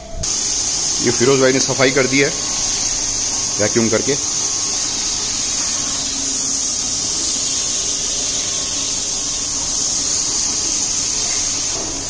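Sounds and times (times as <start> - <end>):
floor polishing machine running: 0.0 - 12.0.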